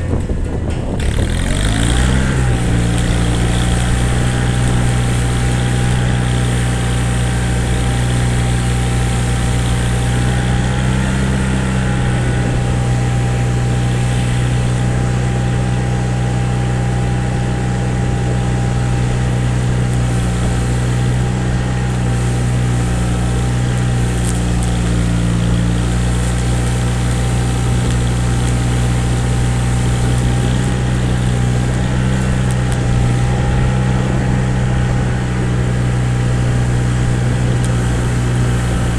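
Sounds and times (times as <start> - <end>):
engine running with whine: 0.0 - 38.9.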